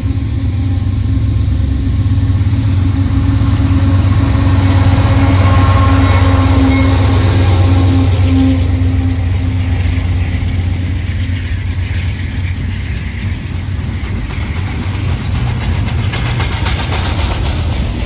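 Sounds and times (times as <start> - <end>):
diesel engine rumble: 0.0 - 18.0
train wheels on rails: 0.0 - 18.0.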